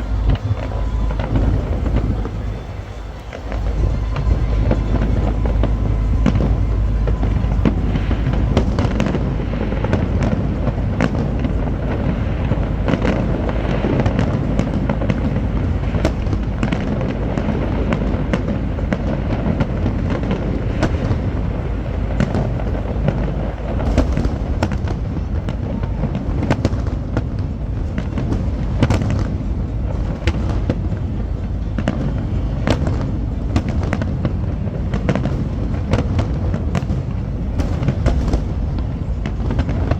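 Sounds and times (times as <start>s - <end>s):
fireworks bangs and crackles: 0.0s - 39.9s
steady low rumble: 0.0s - 39.9s.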